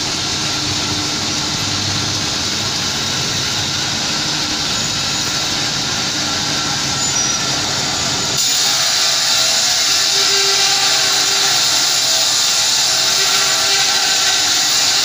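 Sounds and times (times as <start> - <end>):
band saw machine running: 0.0 - 15.0.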